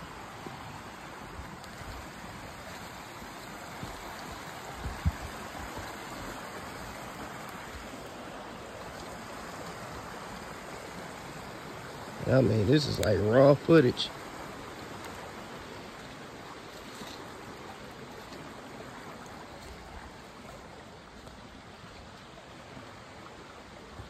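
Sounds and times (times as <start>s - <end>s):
creek flowing over rocks: 0.0s - 24.0s.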